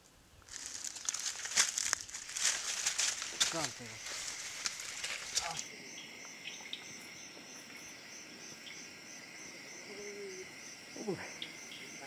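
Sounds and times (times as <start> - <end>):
forest background: 0.0 - 12.0
insect chirping: 0.0 - 12.0.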